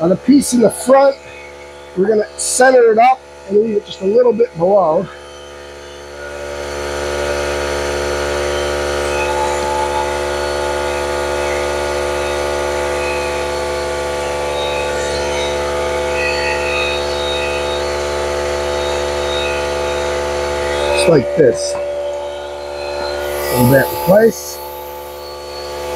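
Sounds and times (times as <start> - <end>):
air compressor humming: 0.0 - 25.9.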